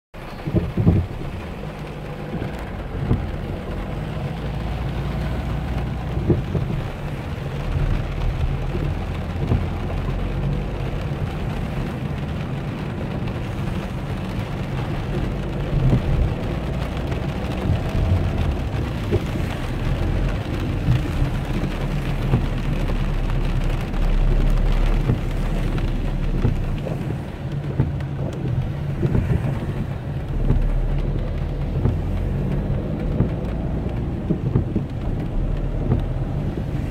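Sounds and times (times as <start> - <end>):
car driving on wet road: 0.2 - 36.9
rain on car roof: 0.2 - 36.9.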